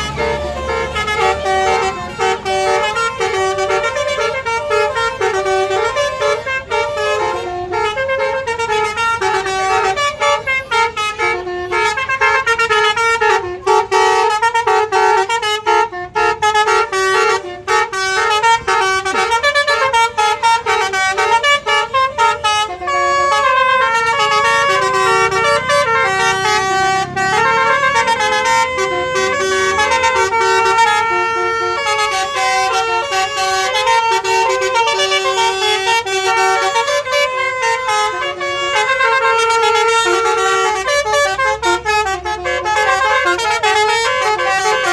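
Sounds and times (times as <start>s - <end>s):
bus musical horns playing melodies: 0.0s - 44.9s.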